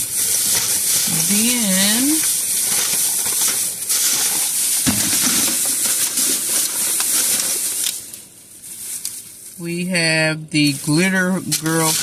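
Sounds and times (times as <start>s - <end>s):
plastic bag rustling: 0.0s - 9.8s, 10.6s - 12.0s.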